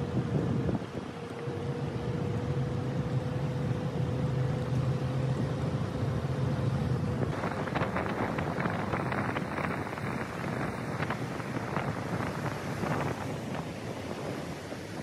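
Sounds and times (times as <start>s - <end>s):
low hum: 0.0s - 15.0s
vehicle engine and road noise: 0.0s - 15.0s.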